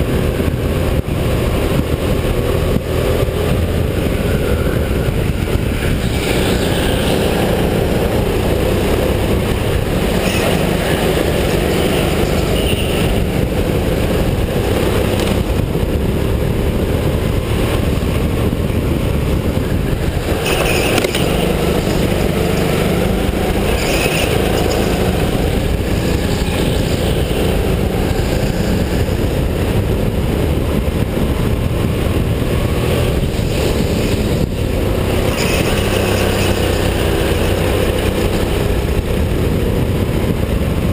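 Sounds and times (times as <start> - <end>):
go-kart engine racing: 0.0 - 40.9.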